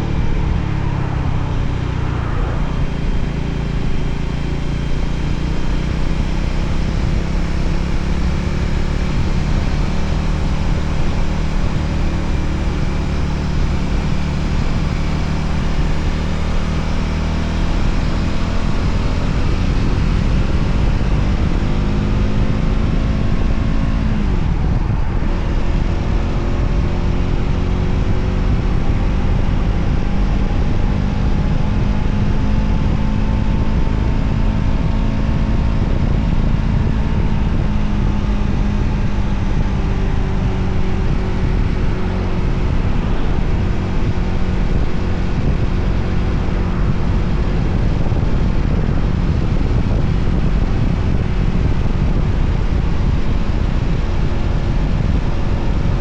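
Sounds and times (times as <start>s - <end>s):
motorcycle engine running: 0.0s - 56.0s
wind and road rush: 0.0s - 56.0s.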